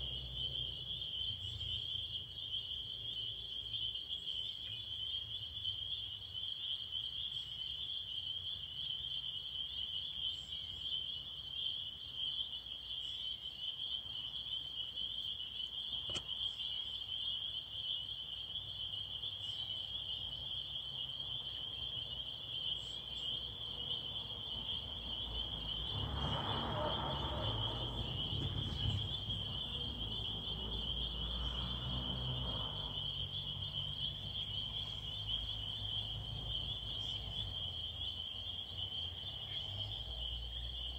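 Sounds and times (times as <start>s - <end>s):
chorus of small calling animals: 0.0s - 40.9s.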